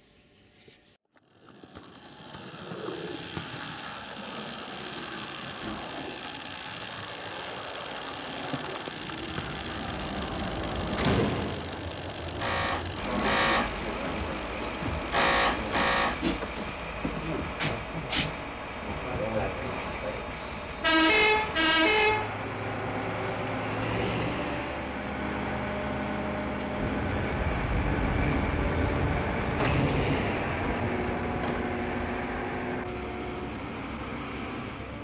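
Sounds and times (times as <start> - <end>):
model train rumbling on track: 1.2 - 35.0.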